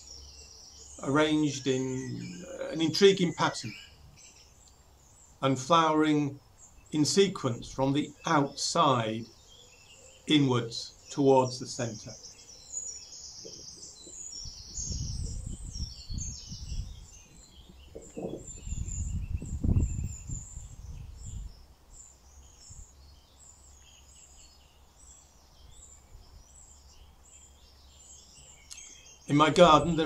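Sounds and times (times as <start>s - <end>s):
birds chirping and singing: 0.0s - 30.0s.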